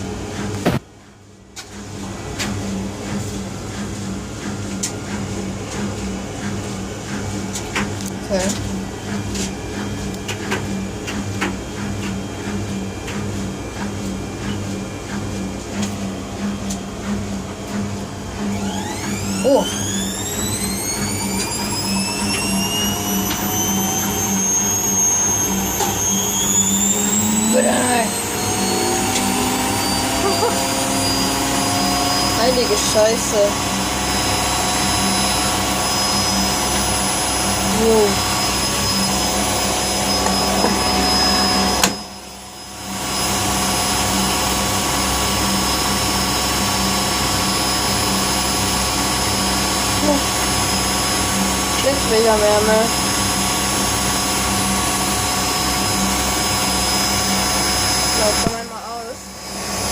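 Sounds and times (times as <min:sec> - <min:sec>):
low pulsing hum: 0:00.0 - 0:59.9
washing machine motor whine: 0:00.0 - 0:59.9.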